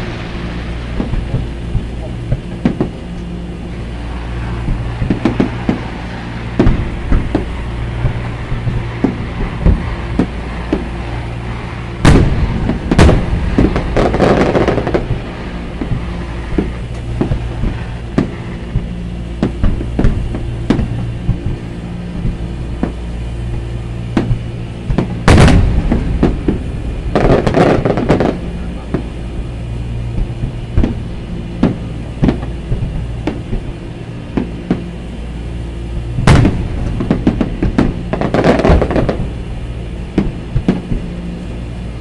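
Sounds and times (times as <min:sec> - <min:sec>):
fireworks bangs and pops: 0:00.0 - 0:35.1, 0:36.0 - 0:41.6
fireworks crackling: 0:00.0 - 0:42.0
low hum: 0:00.0 - 0:42.0.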